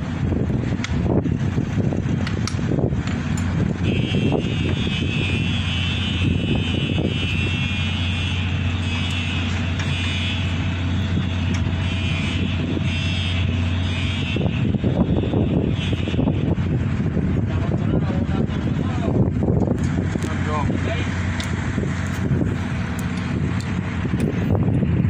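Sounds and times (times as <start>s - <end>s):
low engine hum: 0.0s - 25.0s
wind rumbling on microphone: 0.0s - 25.0s.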